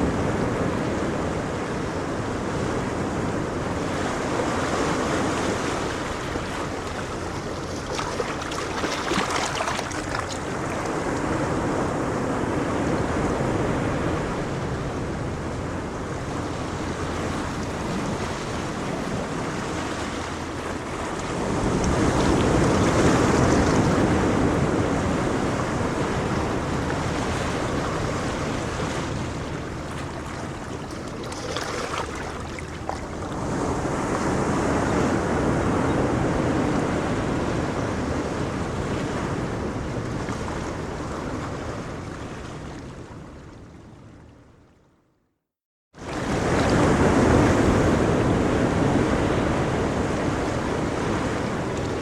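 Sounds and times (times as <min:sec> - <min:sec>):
ocean waves washing on shore: 0:00.0 - 0:43.7, 0:46.0 - 0:52.0.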